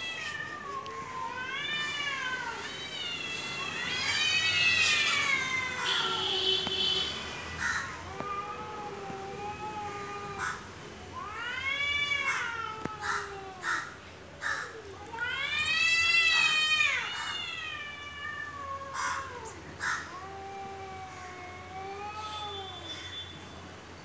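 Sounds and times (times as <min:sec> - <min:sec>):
cats yowling: 0:00.0 - 0:06.4, 0:07.1 - 0:23.2.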